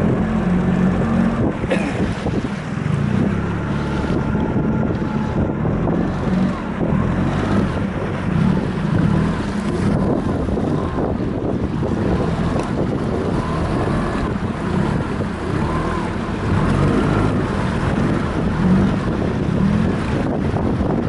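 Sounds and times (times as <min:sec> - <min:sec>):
motorboat engine droning: 0:00.0 - 0:21.0
water rushing past hull: 0:00.0 - 0:21.0
wind buffeting microphone: 0:00.0 - 0:21.0.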